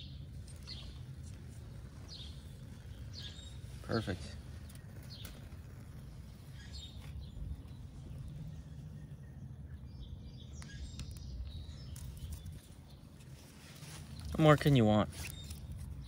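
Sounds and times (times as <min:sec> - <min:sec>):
faint bird chirps: 0:00.0 - 0:14.4
unsteady low rumble: 0:00.0 - 0:14.4.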